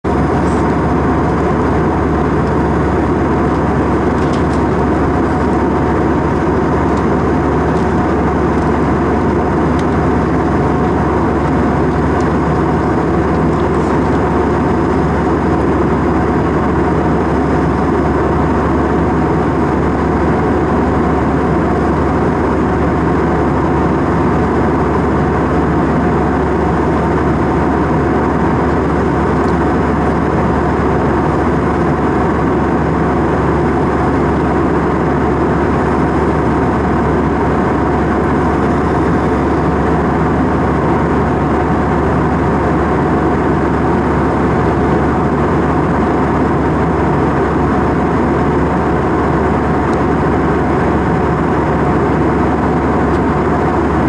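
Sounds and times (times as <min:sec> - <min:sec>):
jet airliner cabin drone: 0:00.1 - 0:54.0.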